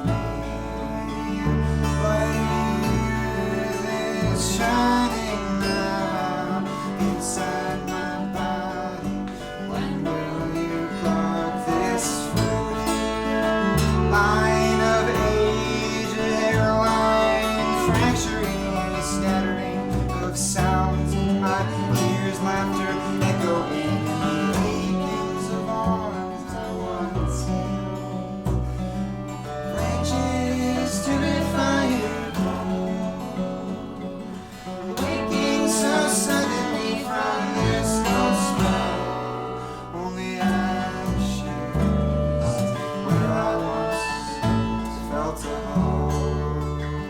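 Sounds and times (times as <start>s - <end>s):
bass line: 0.0s - 47.0s
guitar playing: 0.0s - 47.0s
live acoustic band music: 0.0s - 47.0s.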